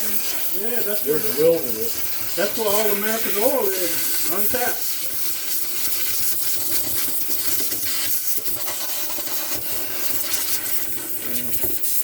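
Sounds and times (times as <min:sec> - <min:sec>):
loud steady hiss: 0:00.0 - 0:12.0.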